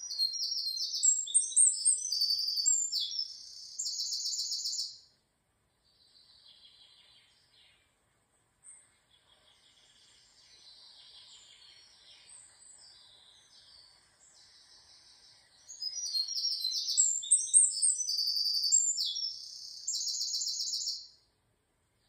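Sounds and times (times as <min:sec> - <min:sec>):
songbird chirps and trills: 0:00.0 - 0:22.0.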